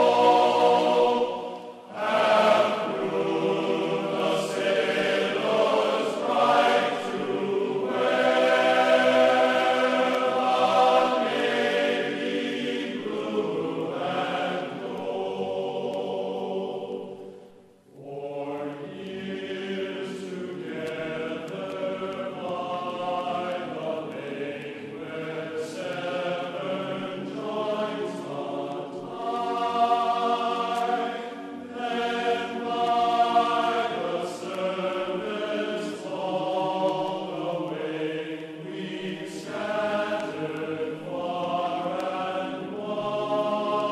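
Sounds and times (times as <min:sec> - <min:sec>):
chant-like vocal music: 0:00.0 - 0:43.9.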